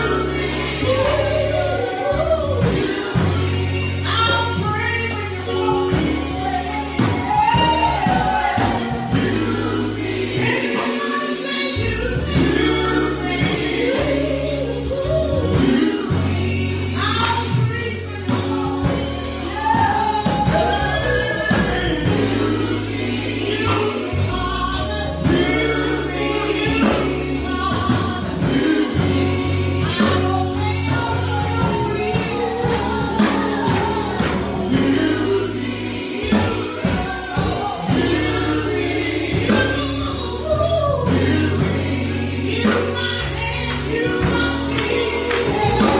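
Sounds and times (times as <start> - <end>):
gospel choir singing: 0.0 - 45.9
steady drum beat: 0.0 - 45.9
sustained bass notes: 0.0 - 45.9.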